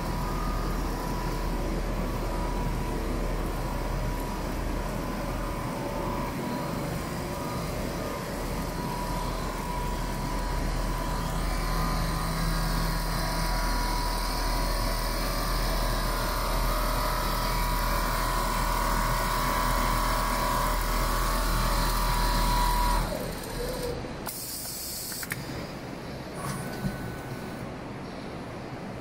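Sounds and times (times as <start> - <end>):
quilting machine whirring and whining: 0.0 - 28.0.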